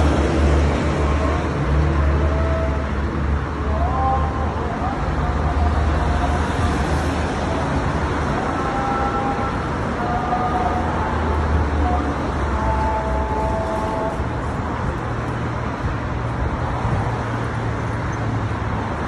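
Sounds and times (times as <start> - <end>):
cars passing: 0.0 - 19.0
traffic hiss and rumble: 0.0 - 19.0.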